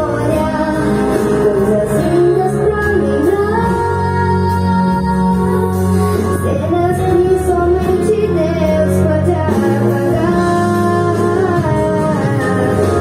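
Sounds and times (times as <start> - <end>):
backing music: 0.0 - 13.0
woman singing: 0.0 - 13.0.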